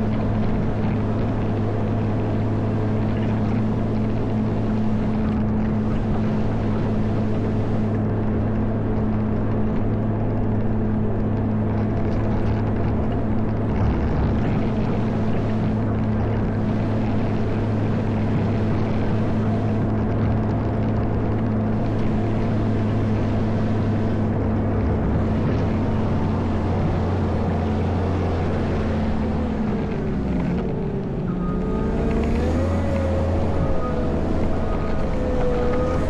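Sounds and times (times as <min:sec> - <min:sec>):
diesel engine running: 0:00.0 - 0:36.0
wavering whine: 0:00.0 - 0:36.0.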